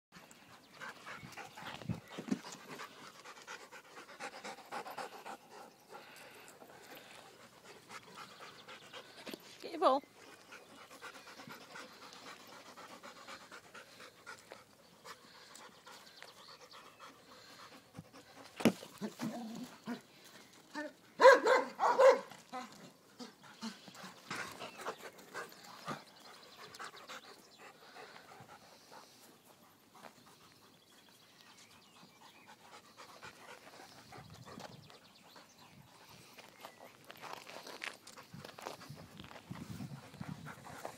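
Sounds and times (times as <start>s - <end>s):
dogs panting: 0.2s - 40.9s.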